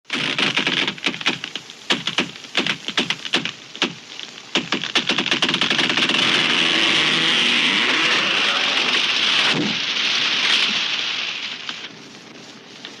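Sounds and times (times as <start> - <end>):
branches and leaves thrashing: 0.1 - 13.0.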